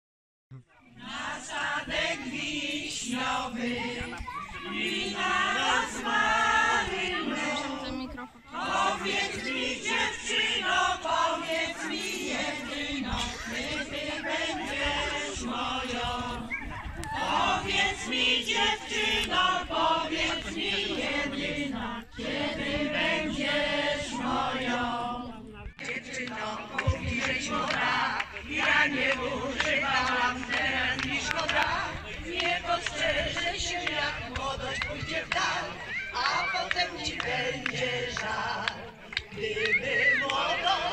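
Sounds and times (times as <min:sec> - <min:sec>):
choir singing: 0:00.9 - 0:40.9.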